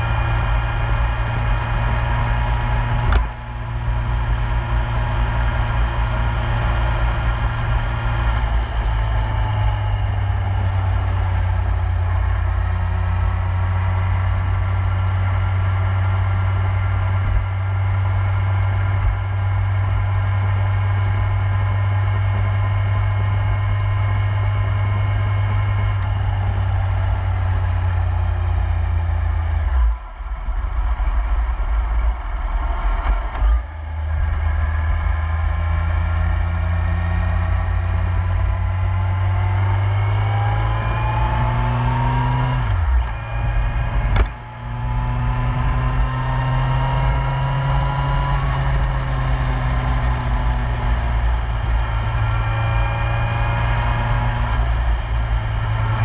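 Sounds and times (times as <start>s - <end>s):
motorcycle engine running steadily: 0.0s - 56.0s.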